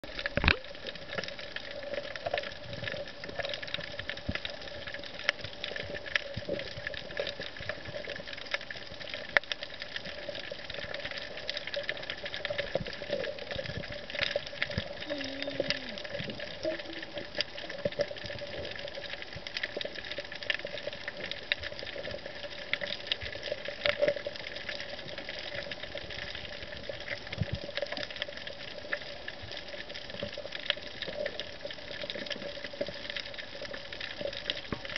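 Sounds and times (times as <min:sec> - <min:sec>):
steady underwater hum: 0:00.0 - 0:34.9
crackle of short clicks: 0:00.1 - 0:34.9.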